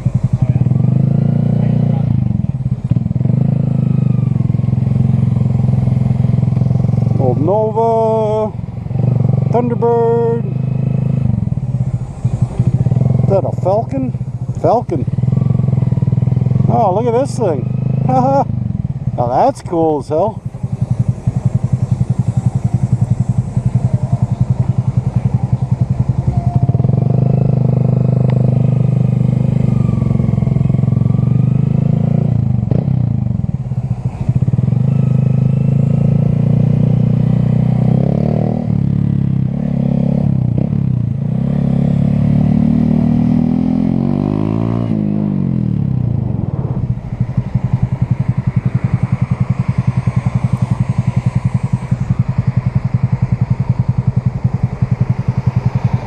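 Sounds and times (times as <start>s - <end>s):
motorcycle engine pulsing: 0.0s - 56.0s.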